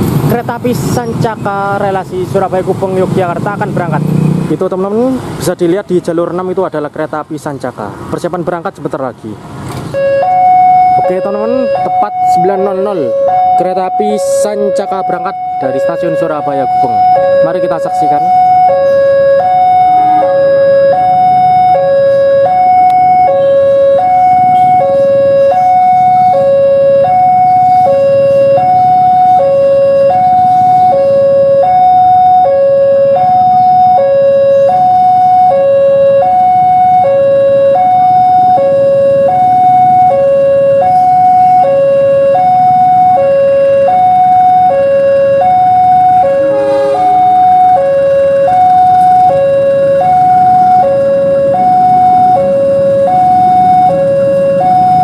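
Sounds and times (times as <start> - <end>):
two-tone railway warning alarm: 10.0 - 55.0.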